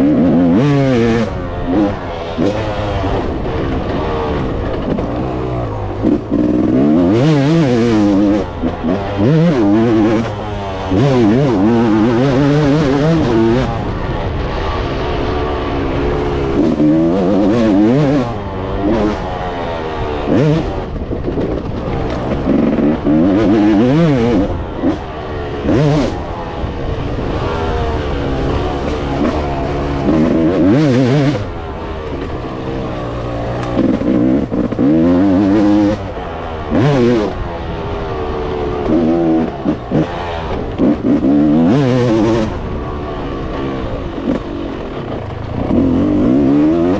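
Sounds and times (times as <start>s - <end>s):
wind noise: 0.0s - 45.8s
motocross bike engine revving: 0.0s - 46.9s.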